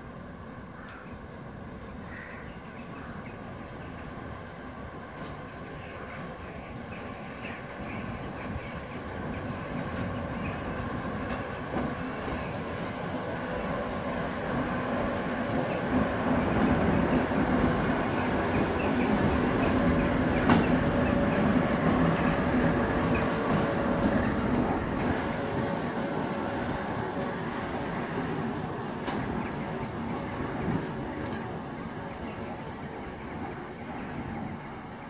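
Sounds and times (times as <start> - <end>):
diesel locomotive passing: 0.0 - 35.0.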